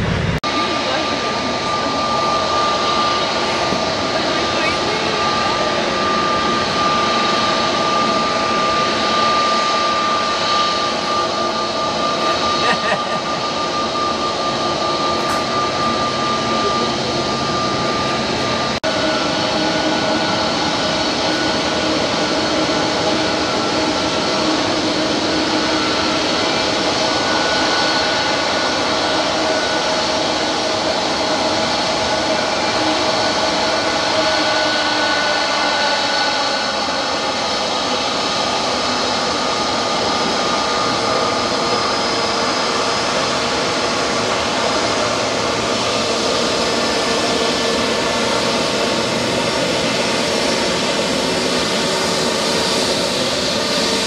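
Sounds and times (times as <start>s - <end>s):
jet engines running: 0.0s - 54.0s
whining engine tones: 0.0s - 54.0s.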